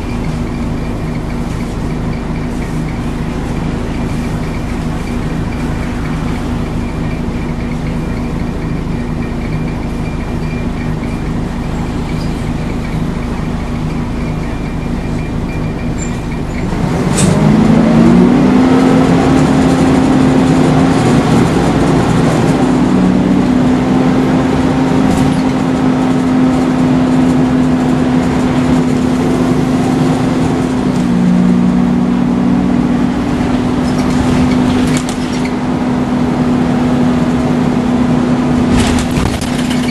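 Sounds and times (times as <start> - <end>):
bus engine humming: 0.0 - 39.9.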